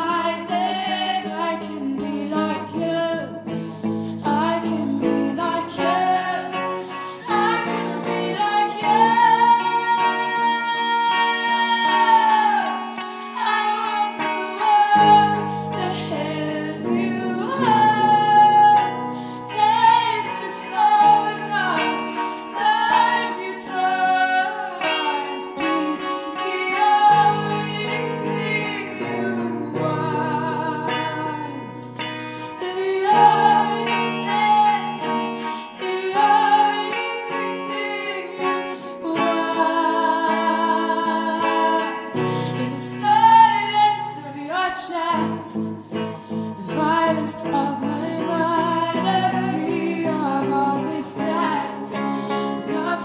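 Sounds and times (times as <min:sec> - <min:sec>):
instrumental backing: 0:00.0 - 0:53.0
woman singing: 0:00.0 - 0:53.0.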